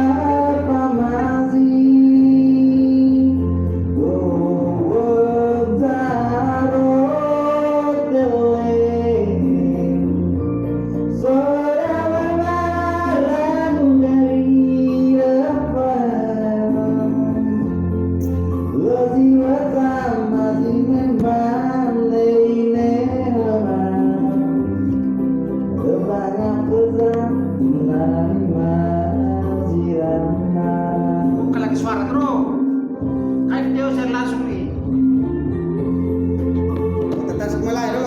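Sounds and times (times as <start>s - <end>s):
musical accompaniment: 0.0s - 38.0s.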